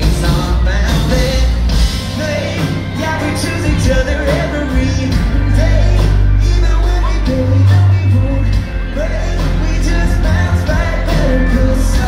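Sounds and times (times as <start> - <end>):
live country band playing: 0.0 - 12.0
man singing into a microphone: 0.0 - 12.0.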